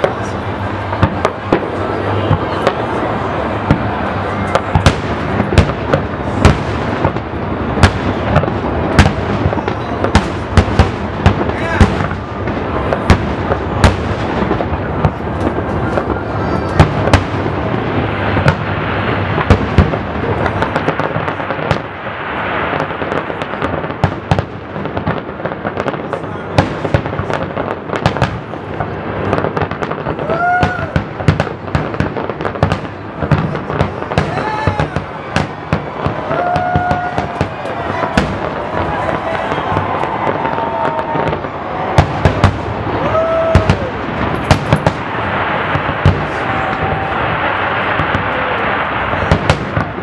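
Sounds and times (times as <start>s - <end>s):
fireworks bursting and crackling: 0.0s - 50.0s.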